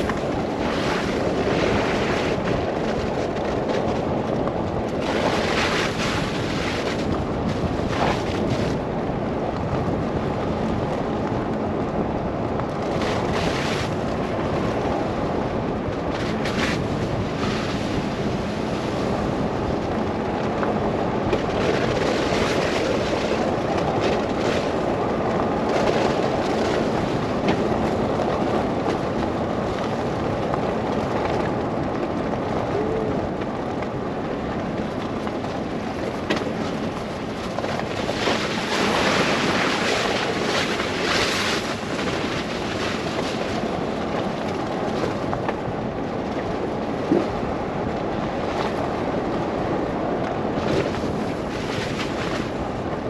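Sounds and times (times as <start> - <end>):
low car rumble: 0.0 - 53.0
wind rushing over microphone: 0.0 - 53.0.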